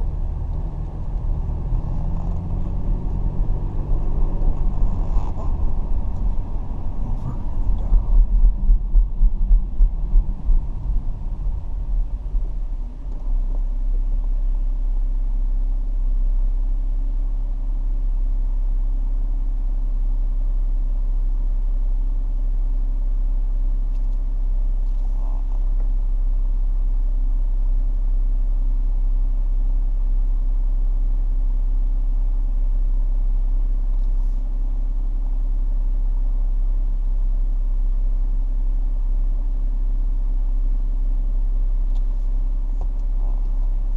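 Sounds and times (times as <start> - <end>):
car engine and road drone: 0.0 - 43.9
constant hum: 0.0 - 43.9.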